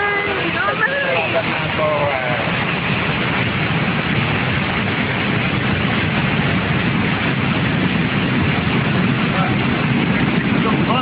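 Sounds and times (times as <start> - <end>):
floodwater rushing through channel: 0.0 - 11.0.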